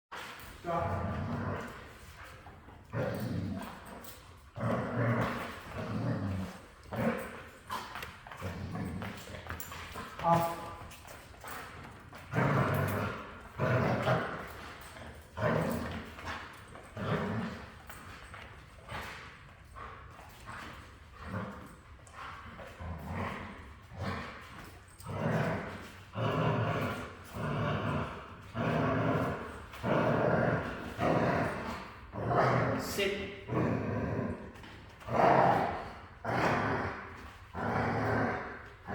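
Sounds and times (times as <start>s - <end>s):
dog growling: 0.8s - 38.9s.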